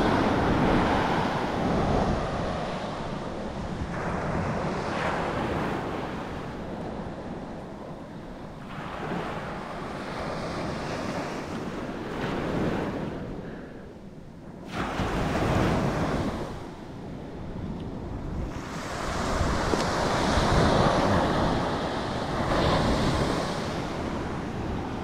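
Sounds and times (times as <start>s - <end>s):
ocean surf breaking: 0.0s - 25.0s
wind buffeting microphone: 0.0s - 25.0s.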